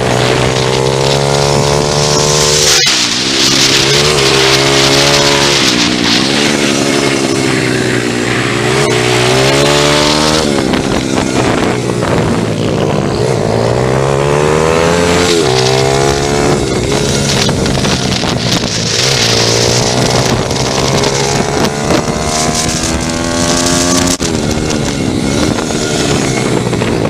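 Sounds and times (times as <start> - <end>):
motorbike engine revving: 0.0 - 27.0
wind rushing over microphone: 0.0 - 27.0.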